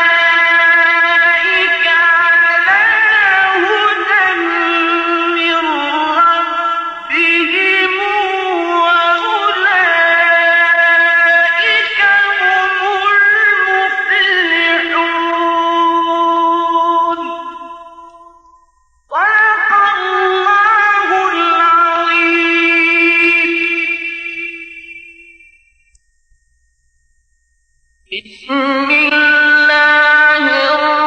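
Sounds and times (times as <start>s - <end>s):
man chanting melismatically: 0.0s - 18.4s, 19.1s - 24.9s, 28.1s - 31.0s.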